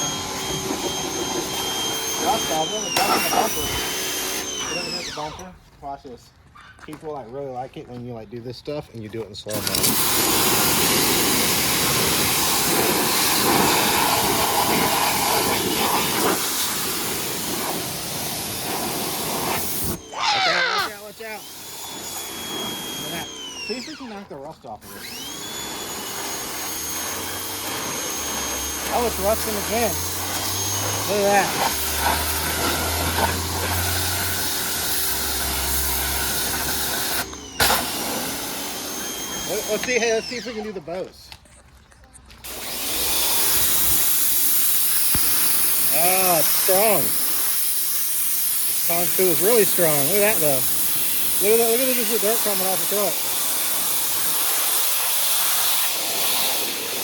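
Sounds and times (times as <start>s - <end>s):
pressure washer spraying water: 0.0s - 5.3s, 9.5s - 24.2s, 24.8s - 40.7s, 42.4s - 57.0s.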